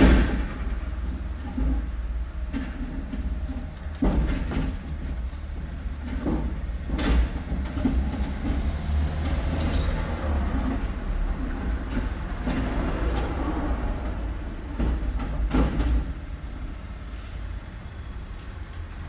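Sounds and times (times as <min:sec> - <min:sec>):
sharp knocks and clatters: 0:00.0 - 0:16.3
passing vehicles rumbling: 0:00.0 - 0:19.0.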